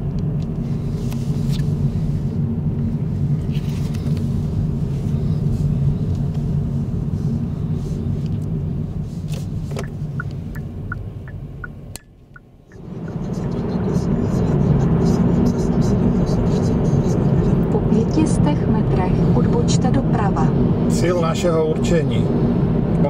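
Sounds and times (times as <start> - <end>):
engine and tyre rumble: 0.0 - 23.0.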